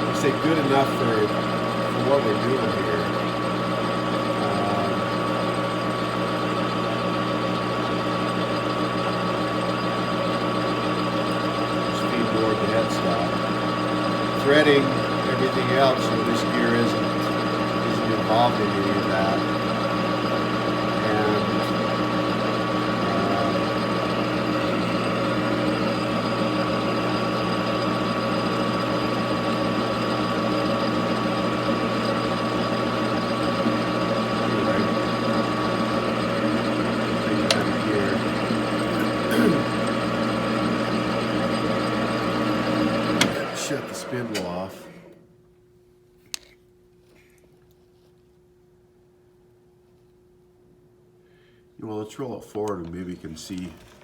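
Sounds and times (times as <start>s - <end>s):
metal lathe humming and whining: 0.0s - 45.2s.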